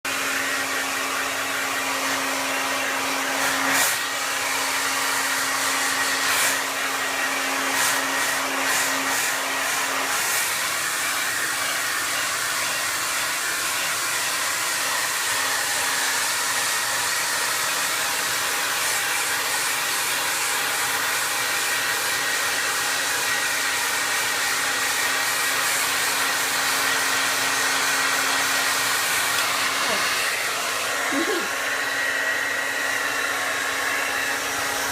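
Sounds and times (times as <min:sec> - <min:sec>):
hair dryer blowing: 0:00.0 - 0:34.9.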